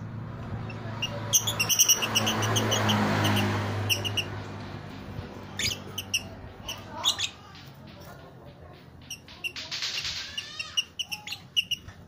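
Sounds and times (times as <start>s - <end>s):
lovebirds chirping: 0.4s - 12.0s.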